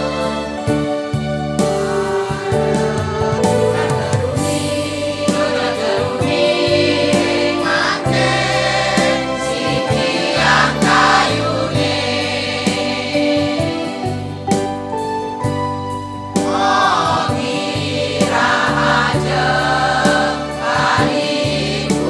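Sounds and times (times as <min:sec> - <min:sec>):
keyboard accompaniment: 0:00.0 - 0:22.0
women's choir singing: 0:02.0 - 0:14.1, 0:16.5 - 0:22.0.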